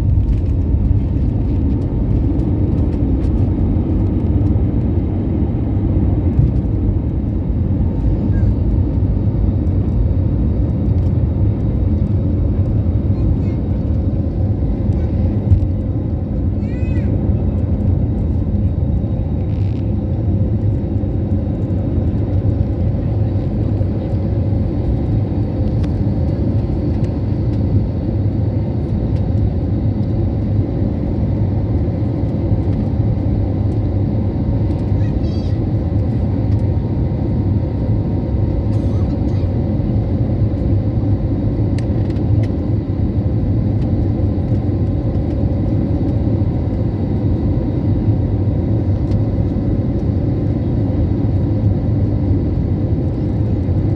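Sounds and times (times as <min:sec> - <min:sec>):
jet engines rumbling: 0:00.0 - 0:53.9.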